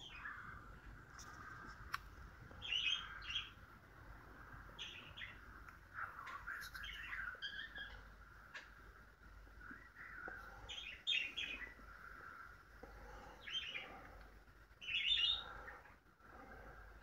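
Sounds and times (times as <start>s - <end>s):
faint steady tone: 0.0s - 17.0s
songbirds chirping: 0.0s - 17.0s.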